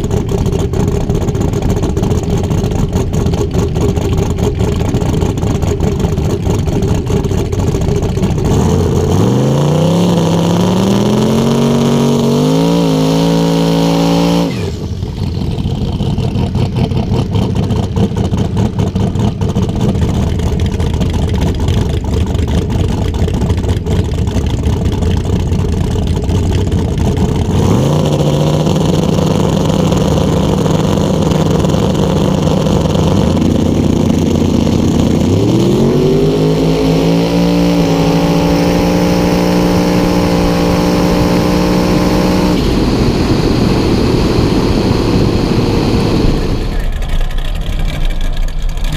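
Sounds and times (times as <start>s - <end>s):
drag car engine revving: 0.0s - 48.9s.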